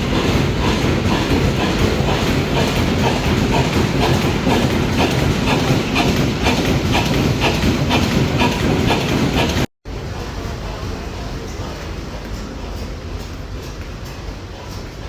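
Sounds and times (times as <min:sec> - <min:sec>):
steam engine exhaust beats: 0:00.0 - 0:15.0.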